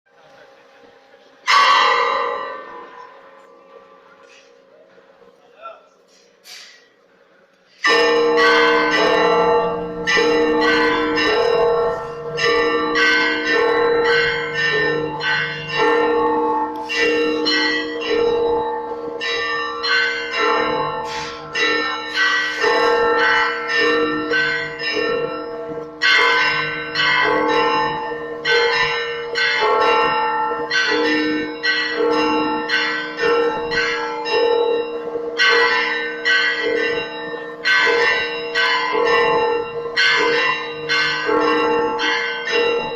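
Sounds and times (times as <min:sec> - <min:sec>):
hum of low bells: 0:00.2 - 0:05.2, 0:07.7 - 0:42.9
church bells pealing: 0:01.0 - 0:04.8, 0:07.7 - 0:42.9.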